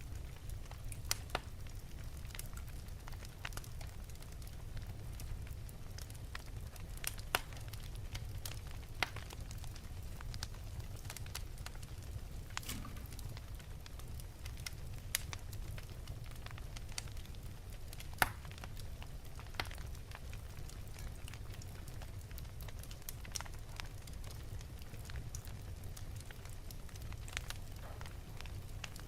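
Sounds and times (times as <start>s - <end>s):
fire crackling and popping: 0.0s - 29.0s
fire flames rumbling: 0.0s - 29.0s.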